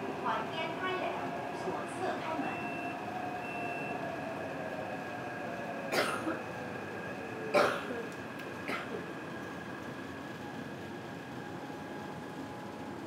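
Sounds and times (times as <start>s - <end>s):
metro train rumble: 0.0s - 13.0s.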